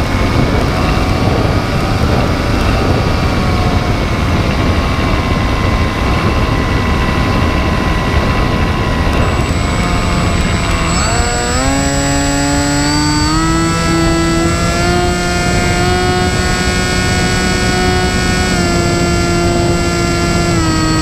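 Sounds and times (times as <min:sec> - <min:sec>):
drone motor and propeller whining: 0:00.0 - 0:21.0
heavy wind rush: 0:00.0 - 0:21.0.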